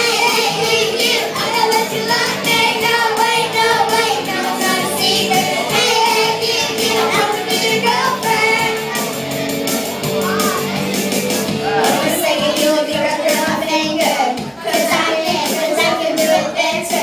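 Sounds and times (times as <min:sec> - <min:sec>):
girls singing karaoke: 0:00.0 - 0:17.0
pop backing track: 0:00.0 - 0:17.0.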